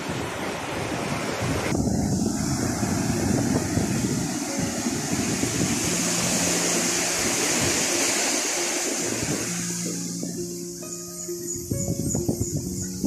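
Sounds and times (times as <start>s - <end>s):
ocean waves breaking: 0.0s - 10.9s
soft music tones: 1.7s - 13.0s.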